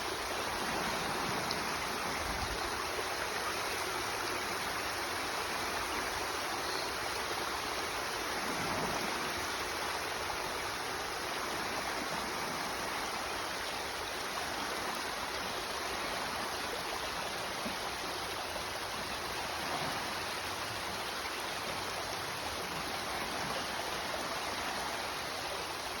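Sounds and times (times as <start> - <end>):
water rushing down waterfall: 0.0 - 26.0.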